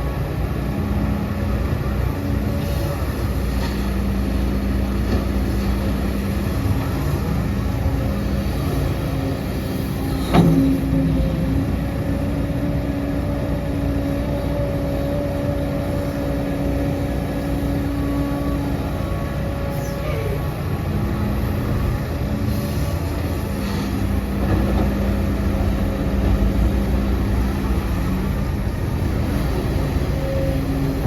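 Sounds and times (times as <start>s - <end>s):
heavy diesel machinery rumbling: 0.0s - 31.0s.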